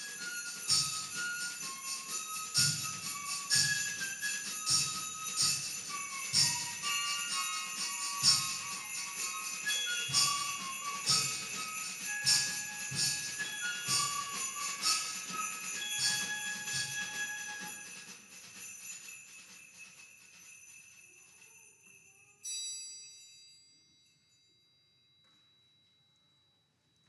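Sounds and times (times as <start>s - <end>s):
sleigh bells jingling: 0.0s - 25.1s.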